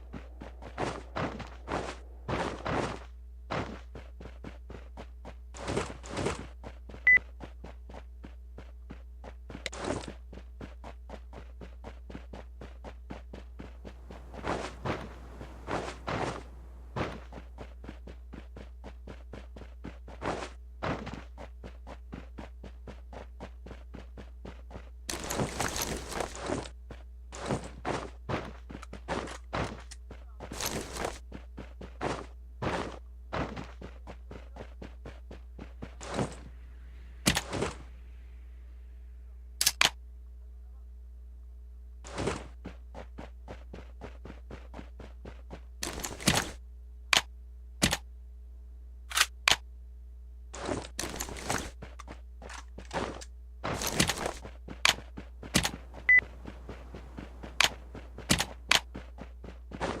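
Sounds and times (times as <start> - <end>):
low hum: 0.0 - 27.9, 29.8 - 60.0.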